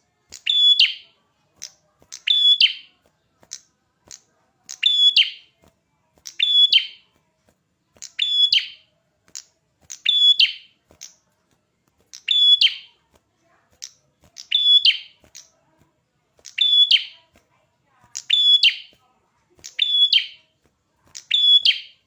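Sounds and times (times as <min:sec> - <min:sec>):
songbird singing: 0:00.0 - 0:05.6, 0:06.2 - 0:07.2, 0:08.0 - 0:11.3, 0:12.1 - 0:13.1, 0:13.7 - 0:15.6, 0:16.4 - 0:17.4, 0:18.1 - 0:22.0
sharp bird chips: 0:00.3 - 0:07.2, 0:07.9 - 0:11.3, 0:12.0 - 0:15.7, 0:16.4 - 0:17.4, 0:18.0 - 0:19.0, 0:19.6 - 0:22.0.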